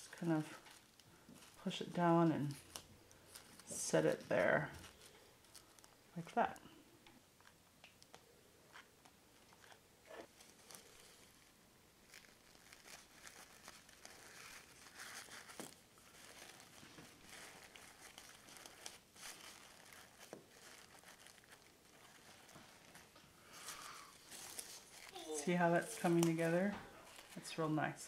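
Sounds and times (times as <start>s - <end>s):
crepe paper crinkling: 0.0s - 6.8s, 7.4s - 27.6s.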